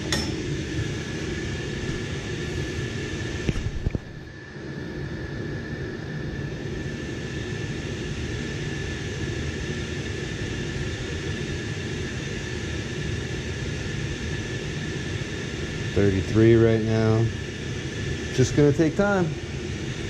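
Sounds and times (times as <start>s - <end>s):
boiler and pumps humming: 0.0s - 20.0s
constant high whine: 0.0s - 20.0s.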